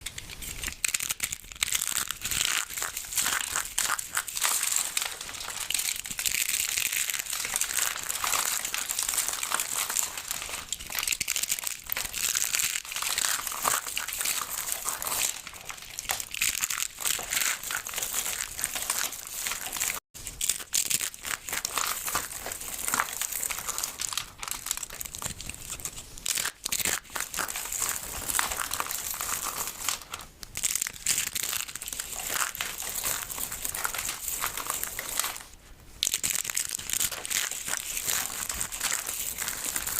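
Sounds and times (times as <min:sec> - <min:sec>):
soap crackling and crunching: 0:00.0 - 0:39.9.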